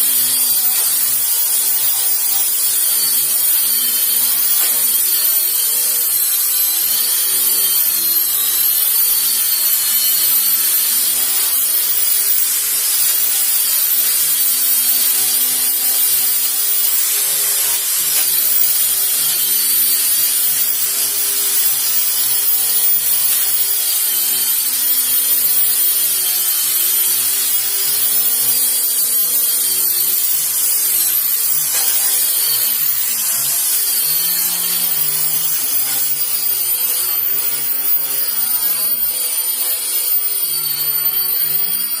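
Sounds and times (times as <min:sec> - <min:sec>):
electric sander on wood: 0:00.0 - 0:42.0.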